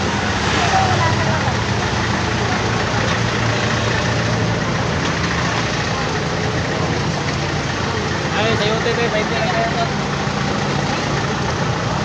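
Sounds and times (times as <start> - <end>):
engine idling: 0.0 - 12.0
indistinct chatter: 0.0 - 12.0
steady traffic: 0.0 - 12.0.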